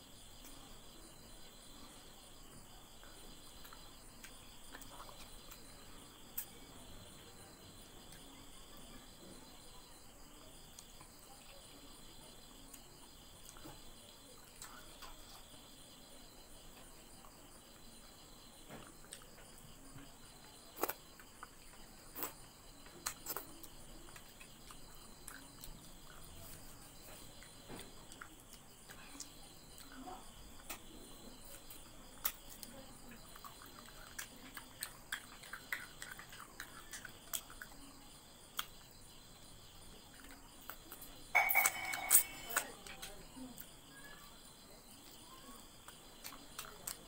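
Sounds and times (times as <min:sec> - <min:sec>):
insects chirring: 0:00.0 - 0:47.0
chewing food: 0:00.4 - 0:47.0.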